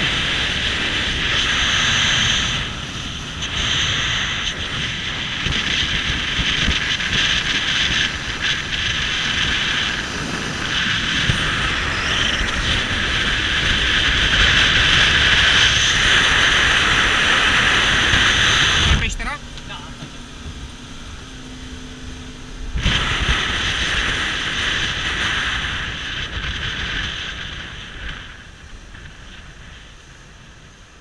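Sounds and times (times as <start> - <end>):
low rumble: 0.0 - 31.0
water rushing past boat hull: 0.0 - 31.0
wind buffeting microphone: 0.0 - 31.0.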